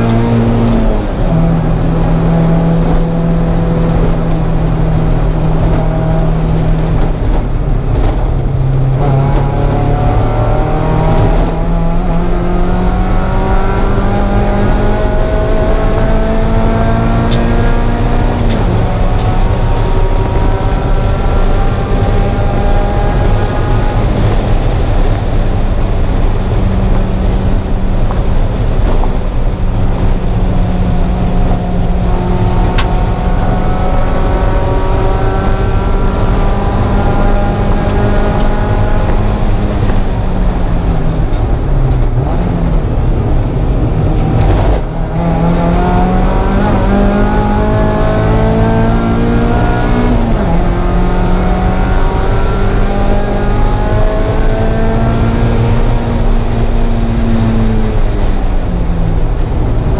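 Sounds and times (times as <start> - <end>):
car engine revving through gears: 0.0 - 59.9
wind and road noise: 0.0 - 59.9.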